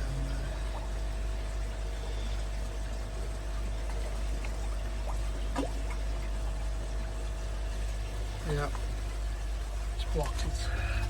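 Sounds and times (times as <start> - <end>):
pond water trickling: 0.0 - 11.0
pump humming: 0.0 - 11.0.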